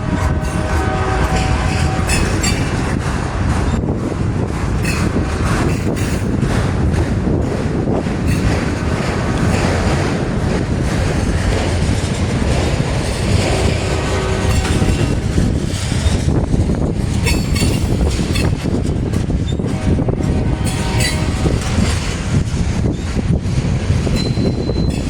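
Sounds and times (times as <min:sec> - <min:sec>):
steel wheels rumbling on rail: 0:00.0 - 0:25.0
wheels clicking over rail joints: 0:00.0 - 0:25.0.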